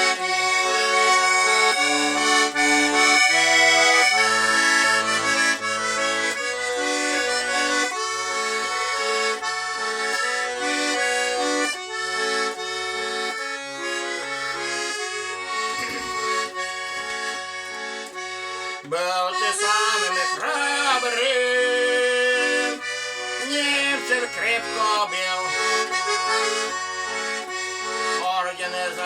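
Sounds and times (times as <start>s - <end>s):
accordion playing folk melody: 0.0s - 29.0s.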